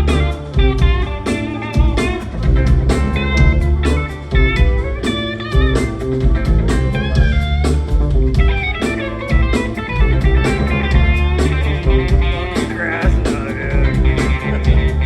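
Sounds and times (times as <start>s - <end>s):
bass: 0.0s - 15.0s
drum kit: 0.0s - 15.0s
electric guitar lead: 0.0s - 15.0s.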